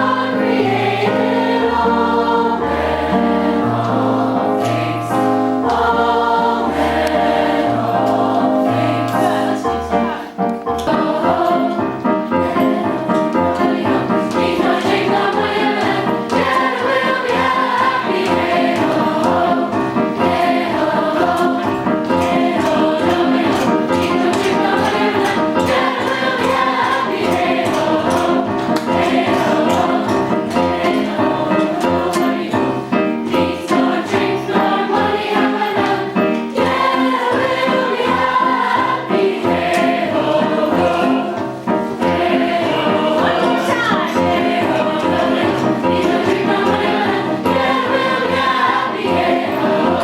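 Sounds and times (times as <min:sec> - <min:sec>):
group of voices singing: 0:00.0 - 0:50.0
music with a steady beat: 0:02.8 - 0:50.0.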